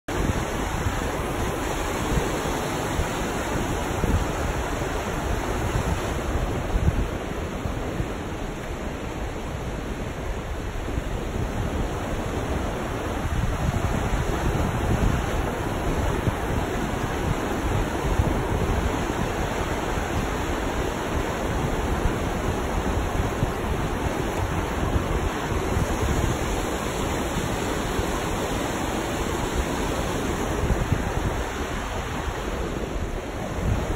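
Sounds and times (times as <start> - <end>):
river rapids over rocks: 0.1 - 33.9
wind buffeting microphone: 0.1 - 33.9.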